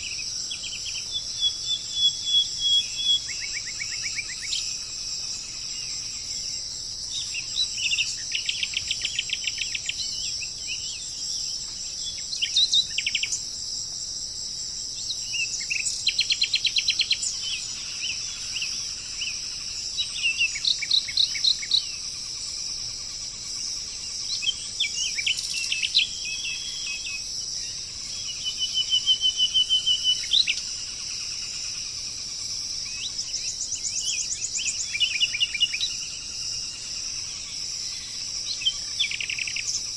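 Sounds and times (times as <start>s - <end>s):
high-pitched insect chorus: 0.0s - 39.9s
songbirds chirping and trilling: 0.0s - 39.9s.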